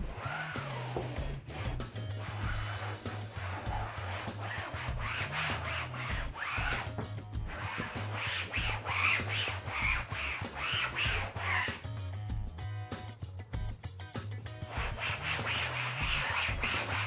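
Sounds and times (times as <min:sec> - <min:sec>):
damp cloth rubbing on wall: 0:00.0 - 0:11.8, 0:14.7 - 0:17.0.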